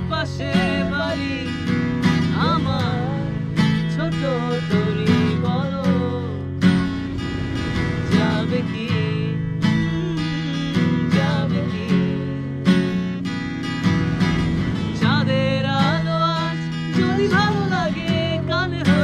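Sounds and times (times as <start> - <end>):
person singing: 0.0 - 6.9, 7.8 - 12.9, 14.9 - 19.0
acoustic guitar strumming: 0.0 - 19.0.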